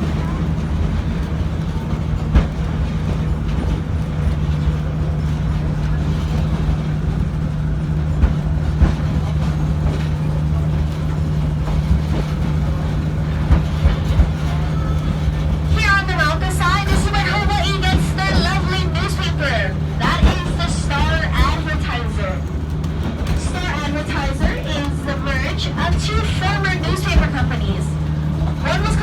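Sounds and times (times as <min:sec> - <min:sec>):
train running on track: 0:00.0 - 0:29.0
wheels clicking on rails: 0:00.0 - 0:29.0.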